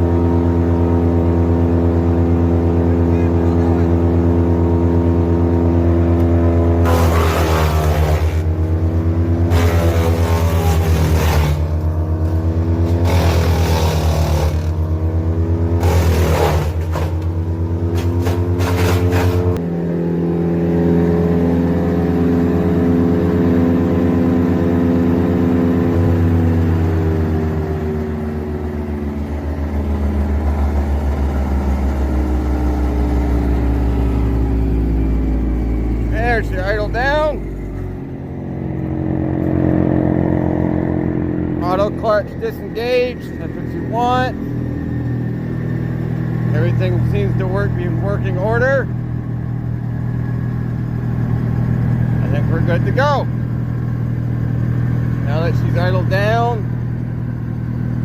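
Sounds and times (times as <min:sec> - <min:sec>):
wood chipper engine running: 0:00.0 - 0:58.0
wood chipper grinding wood: 0:00.0 - 0:58.0.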